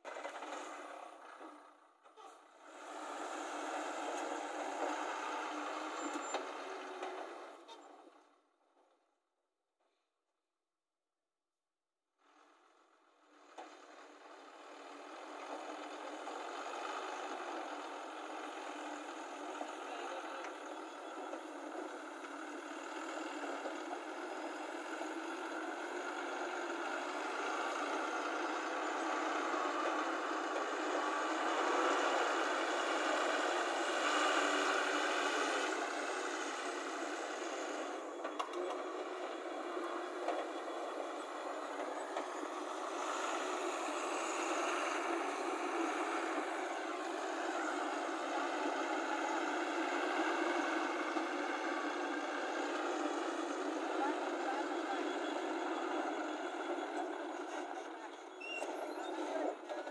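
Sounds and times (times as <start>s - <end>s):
diesel truck engine pulling away: 0.0s - 8.4s, 12.3s - 59.9s.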